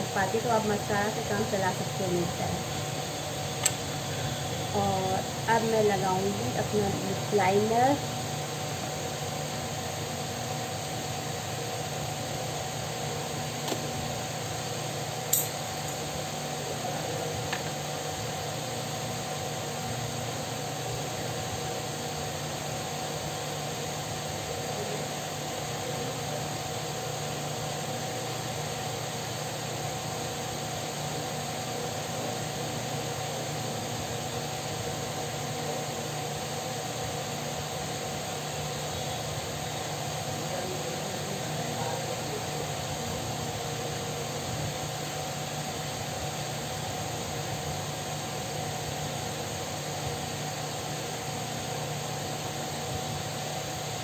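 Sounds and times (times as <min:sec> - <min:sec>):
electric fan humming: 0:00.0 - 0:54.0.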